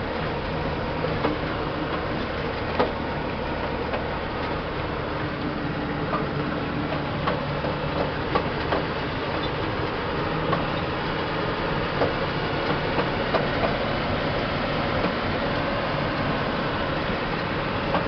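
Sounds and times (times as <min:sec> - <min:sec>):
truck engine running: 0:00.0 - 0:18.0
cab rattling and knocking: 0:01.0 - 0:15.3, 0:17.4 - 0:18.0.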